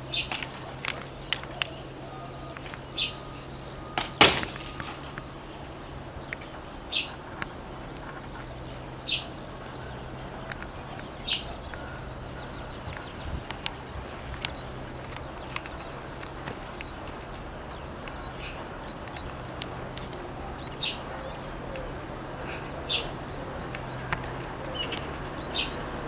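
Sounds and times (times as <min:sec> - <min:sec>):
bird chirping: 0:00.0 - 0:26.0
low steady hum: 0:00.0 - 0:26.0.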